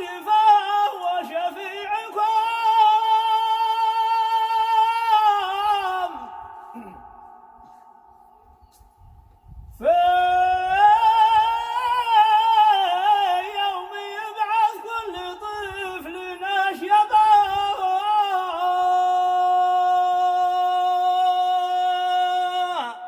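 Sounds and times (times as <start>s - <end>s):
man chanting: 0.0s - 8.0s, 9.8s - 23.0s.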